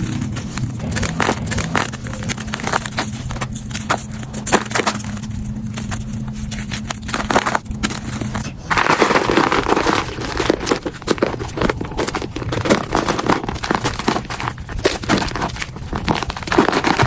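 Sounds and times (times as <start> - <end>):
chalk being crushed: 0.0 - 17.0
steady low hum: 0.0 - 17.0.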